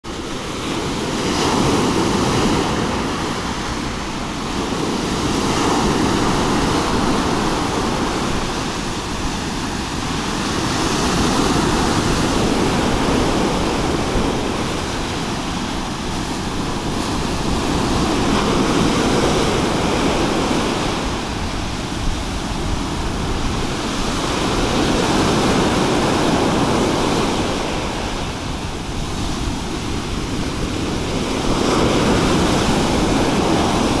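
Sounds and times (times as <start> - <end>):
waves breaking on pebble beach: 0.1 - 34.0.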